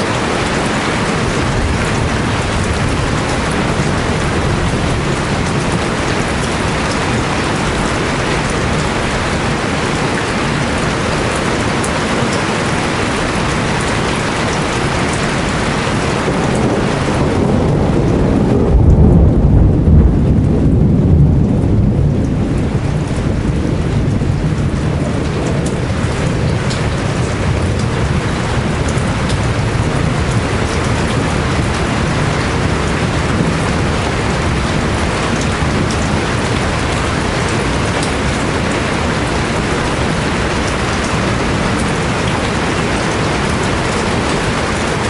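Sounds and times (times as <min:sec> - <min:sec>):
rain falling: 0:00.0 - 0:45.0
thunder rumbling: 0:00.0 - 0:45.0.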